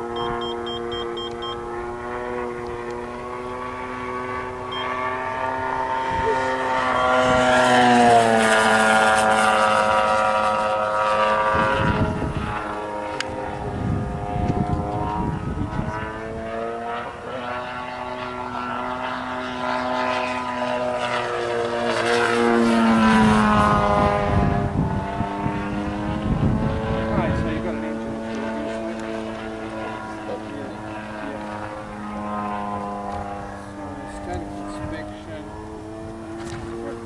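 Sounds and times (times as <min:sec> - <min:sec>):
model airplane engine and propeller: 0:00.0 - 0:37.0.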